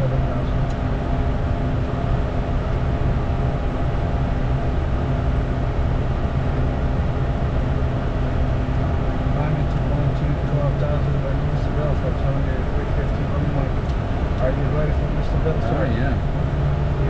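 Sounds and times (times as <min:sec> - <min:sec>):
constant low hum: 0:00.0 - 0:17.0
jet engine and airflow rush: 0:00.0 - 0:17.0.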